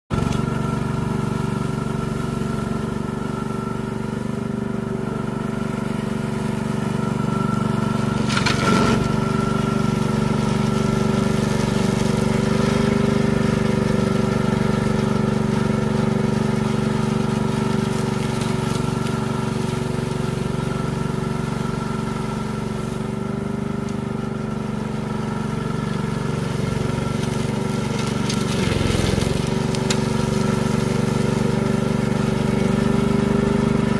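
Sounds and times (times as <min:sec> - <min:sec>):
brush cutter running: 0:00.1 - 0:33.9.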